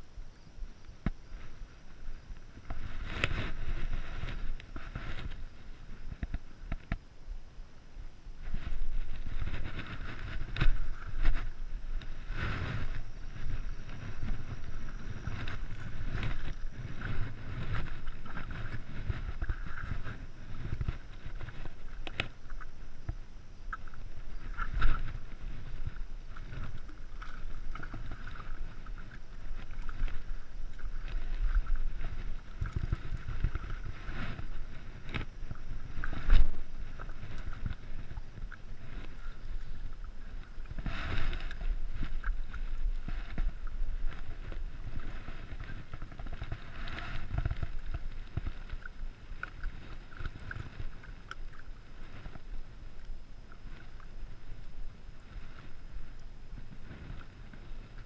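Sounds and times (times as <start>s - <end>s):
wind rumble on microphone: 0.0s - 58.0s
water lapping against rocks: 1.0s - 7.1s, 8.4s - 58.0s.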